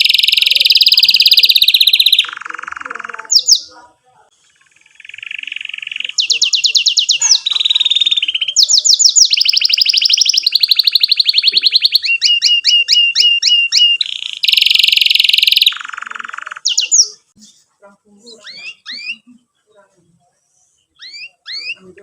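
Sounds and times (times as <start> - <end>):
canary singing trills: 0.0 - 22.0.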